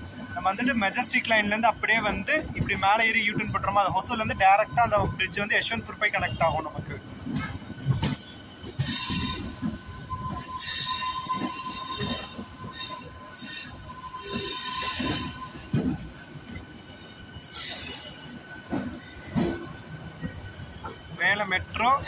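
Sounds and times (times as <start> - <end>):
train rumbling: 0.0 - 22.0
train wheels squealing on rails: 0.0 - 22.0.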